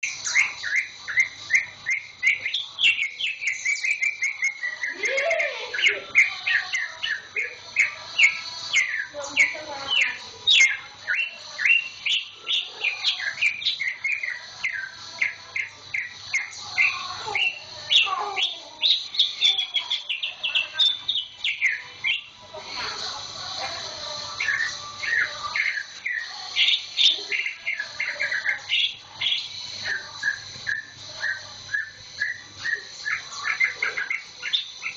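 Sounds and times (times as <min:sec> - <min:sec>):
bird singing rapid chirps: 0:00.0 - 0:34.9.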